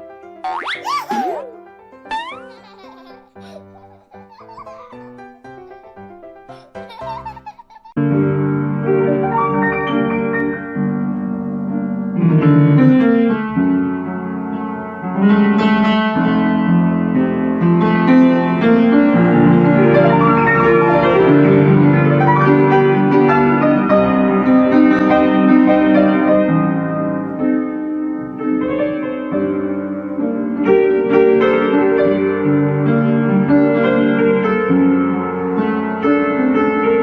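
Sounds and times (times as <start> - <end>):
instrumental piano music: 0.0 - 37.0.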